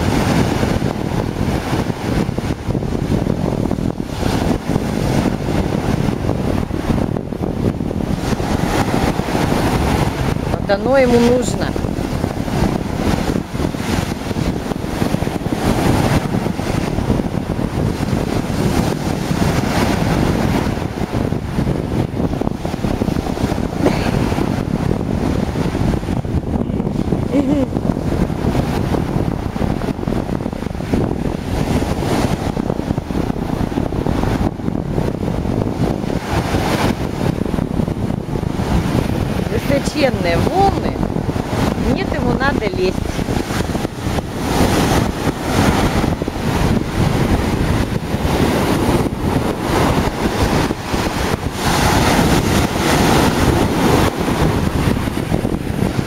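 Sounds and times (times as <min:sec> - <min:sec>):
heavy surf breaking: 0:00.0 - 0:56.0
storm wind buffeting microphone: 0:00.0 - 0:56.0.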